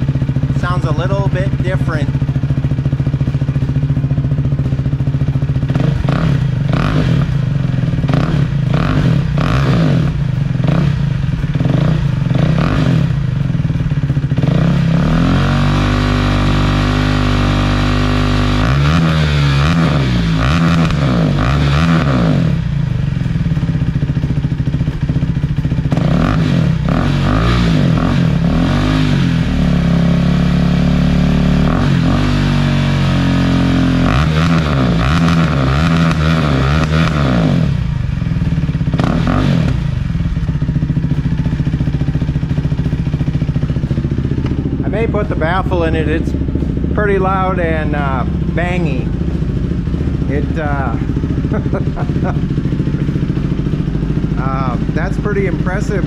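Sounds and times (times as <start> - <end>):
motorcycle engine revving and popping: 0.0 - 56.0.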